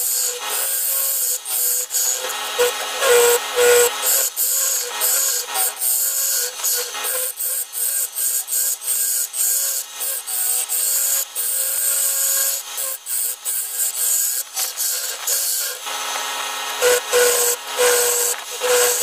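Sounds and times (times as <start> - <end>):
gouge cutting wood on lathe: 0.0 - 19.0.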